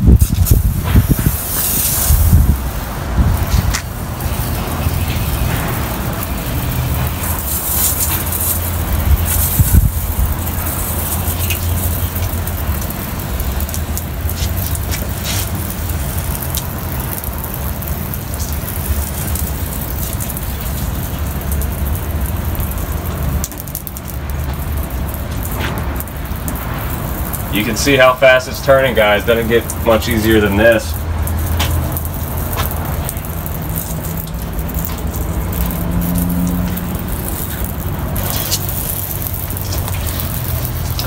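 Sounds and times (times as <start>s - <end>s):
low rumble: 0.0s - 27.5s, 30.8s - 41.0s.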